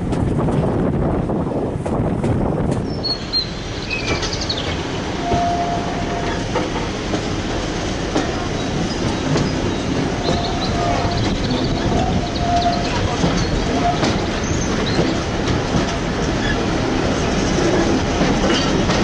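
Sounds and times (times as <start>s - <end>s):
train rumble: 0.0s - 19.0s
train wheels clicking on rails: 1.7s - 19.0s.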